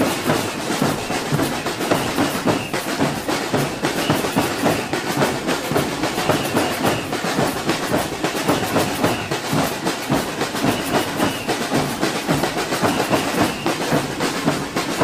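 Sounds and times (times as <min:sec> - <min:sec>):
samba drum band: 0:00.0 - 0:15.0.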